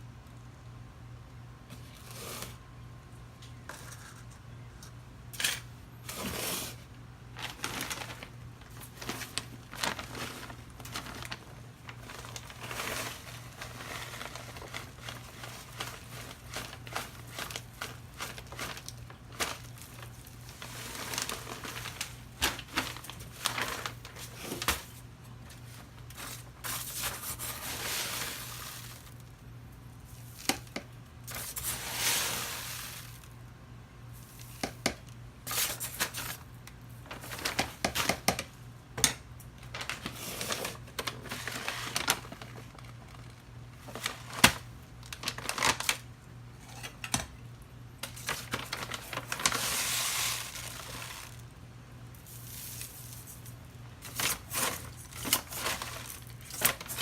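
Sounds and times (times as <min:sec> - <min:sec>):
rustling and crinkling: 0:01.7 - 0:02.6, 0:03.4 - 0:33.5, 0:34.1 - 0:57.0.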